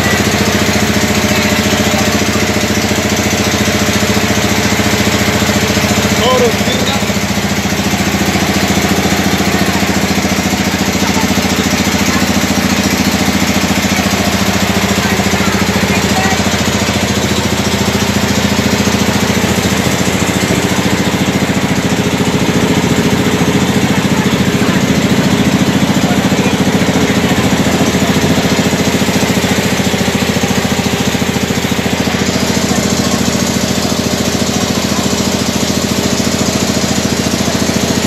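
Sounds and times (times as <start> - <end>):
ferry engine drone: 0.0 - 38.0.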